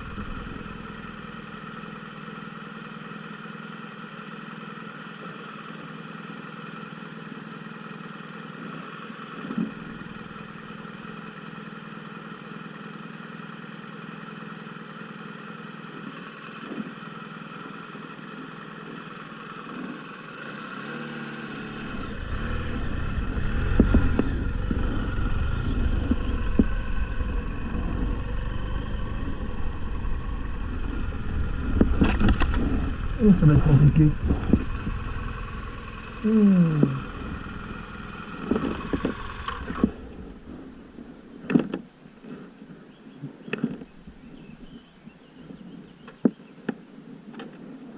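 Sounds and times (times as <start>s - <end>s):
off-road vehicle engine running: 0.0s - 47.9s.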